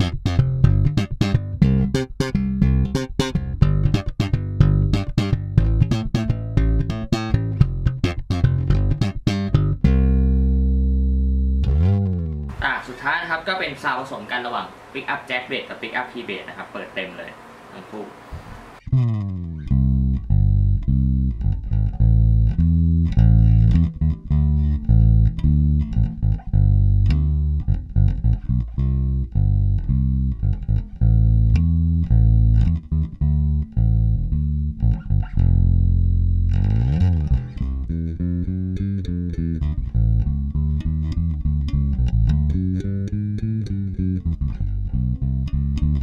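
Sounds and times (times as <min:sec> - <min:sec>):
electric bass played fingerstyle: 0:00.0 - 0:13.8, 0:18.3 - 0:46.0.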